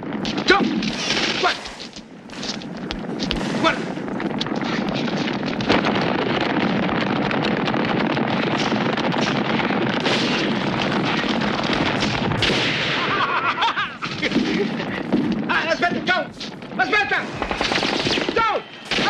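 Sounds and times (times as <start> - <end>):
gunfire and blasts: 0.0 - 19.0.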